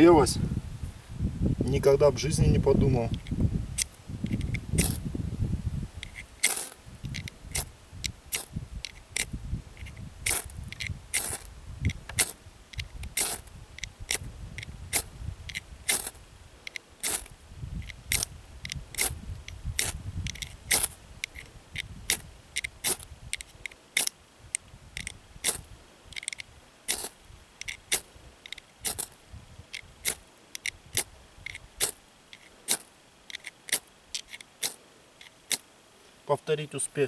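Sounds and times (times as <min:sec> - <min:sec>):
ferro rod scraped by striker: 0:03.1 - 0:05.1, 0:06.0 - 0:24.2, 0:25.0 - 0:35.7.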